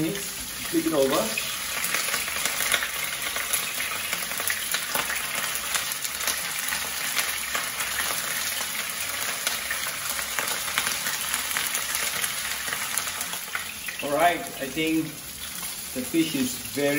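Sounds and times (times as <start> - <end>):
fish sizzling in hot oil: 0.0 - 16.9
oil crackling spatters: 0.0 - 16.9.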